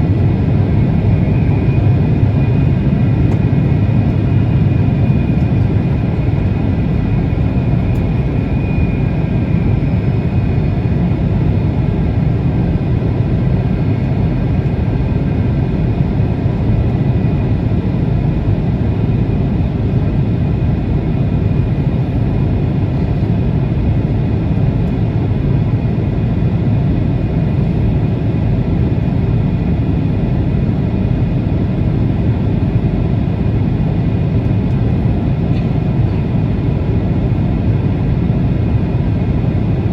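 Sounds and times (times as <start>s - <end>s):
jet airliner rumble: 0.0s - 39.9s.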